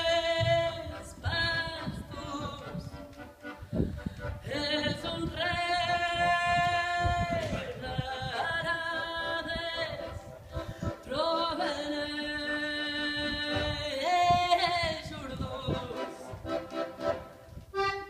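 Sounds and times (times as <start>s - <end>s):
button accordion: 0.0s - 5.7s, 7.6s - 14.4s, 15.3s - 18.0s.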